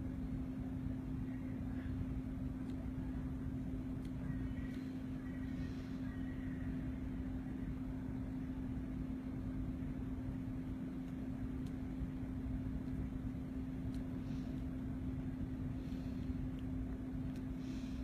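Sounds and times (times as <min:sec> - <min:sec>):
electric fan humming: 0:00.0 - 0:18.0.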